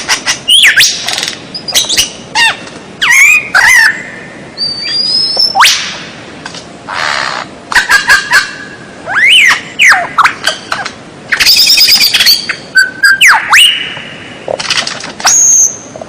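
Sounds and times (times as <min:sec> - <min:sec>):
songbird singing: 0:00.0 - 0:06.1, 0:06.9 - 0:14.6.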